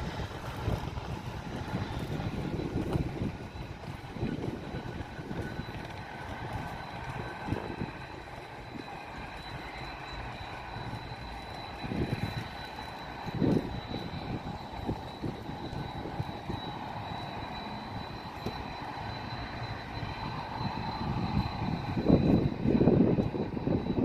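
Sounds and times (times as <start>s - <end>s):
airplane engines running: 0.0s - 24.0s.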